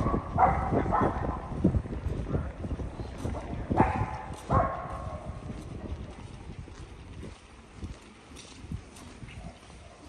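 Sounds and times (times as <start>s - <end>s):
outdoor background noise: 0.0s - 10.0s
footsteps walking: 1.6s - 10.0s.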